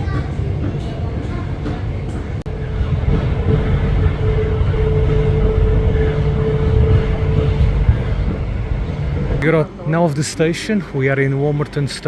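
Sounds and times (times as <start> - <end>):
commuter train rumbling: 0.0 - 12.0
train whine: 0.0 - 12.0.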